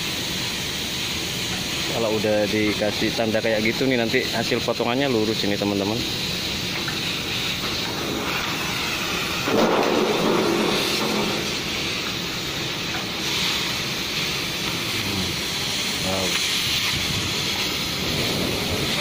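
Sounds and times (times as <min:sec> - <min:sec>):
cutting torch hissing: 0:00.0 - 0:19.0.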